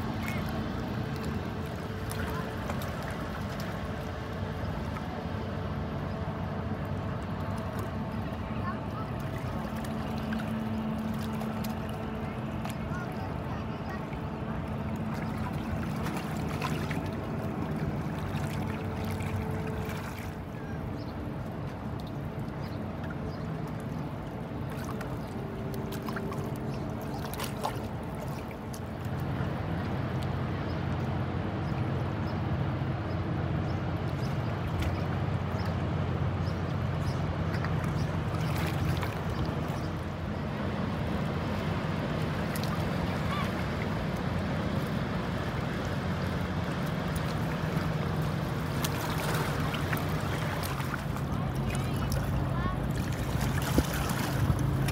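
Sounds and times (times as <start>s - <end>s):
boat engine humming: 0.0s - 54.9s.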